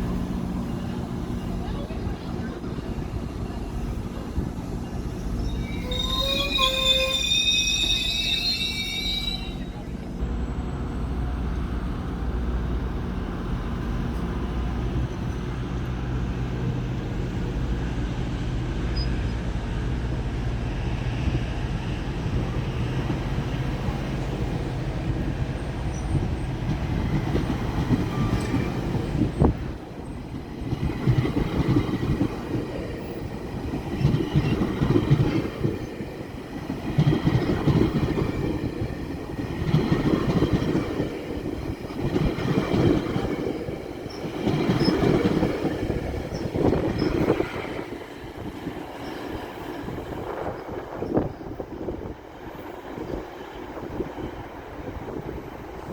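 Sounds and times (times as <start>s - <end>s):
train pulling away: 0.0s - 52.2s.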